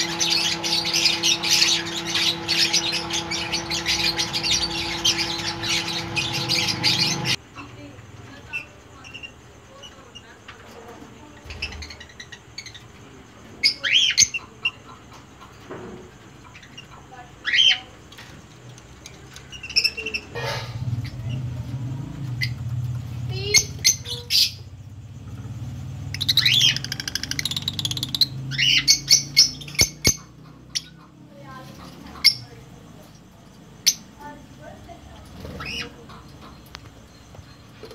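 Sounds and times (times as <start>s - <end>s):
lovebirds chirping and squawking: 0.0s - 7.6s, 8.3s - 37.9s.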